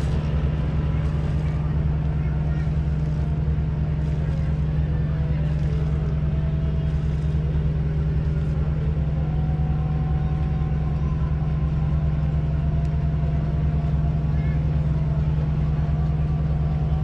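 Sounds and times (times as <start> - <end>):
ship engine idling: 0.0 - 17.0.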